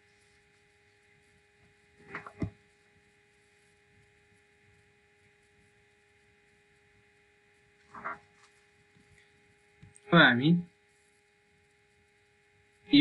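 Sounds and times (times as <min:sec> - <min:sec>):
faint two-tone hum: 0:00.0 - 0:13.0.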